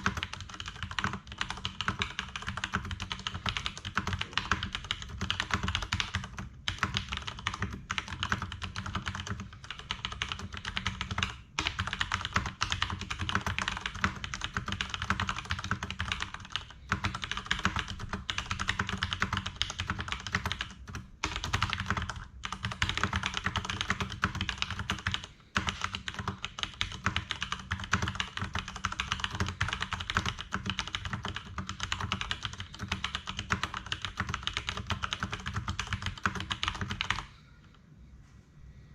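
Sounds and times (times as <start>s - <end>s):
mechanical keyboard typing: 0.0s - 37.3s.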